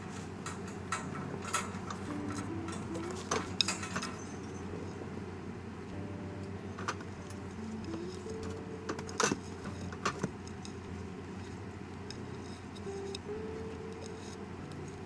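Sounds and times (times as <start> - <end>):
faint background music: 0.4 - 15.0.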